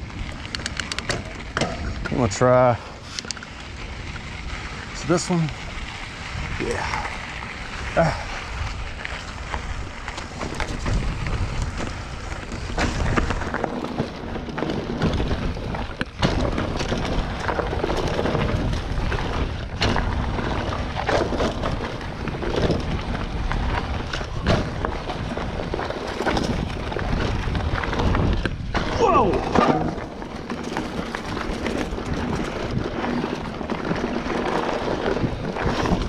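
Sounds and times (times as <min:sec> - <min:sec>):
bike frame rattling on bumps: 0:00.0 - 0:36.0
wind buffeting microphone: 0:00.0 - 0:36.0.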